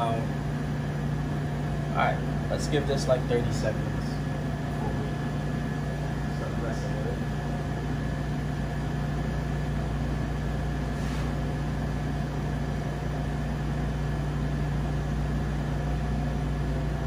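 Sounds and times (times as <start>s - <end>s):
kitchen equipment humming: 0.0s - 17.0s.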